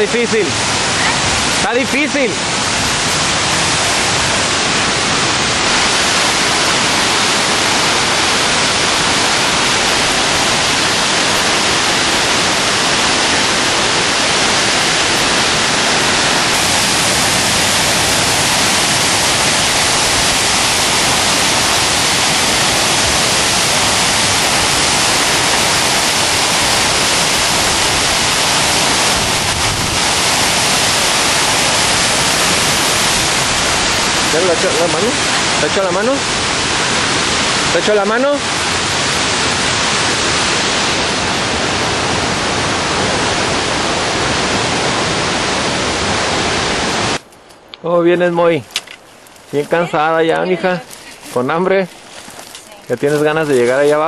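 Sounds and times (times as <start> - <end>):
waterfall rushing: 0.0 - 47.2, 47.9 - 54.0.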